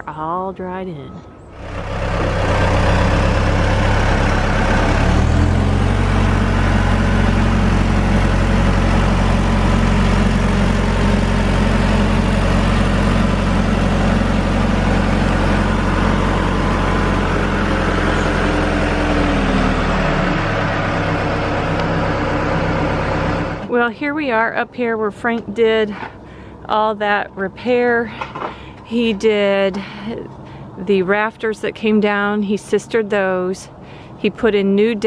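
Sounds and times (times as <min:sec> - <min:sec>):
diesel engine revving: 0:01.4 - 0:32.8.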